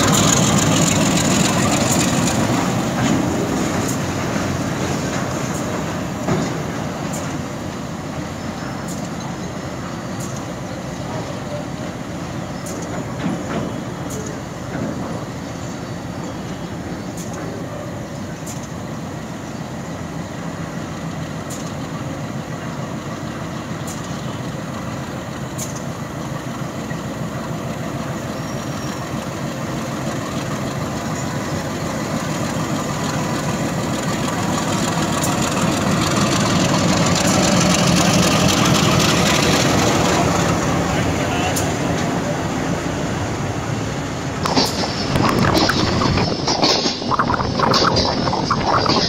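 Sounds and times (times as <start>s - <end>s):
locomotive diesel engine running: 0.0s - 49.0s.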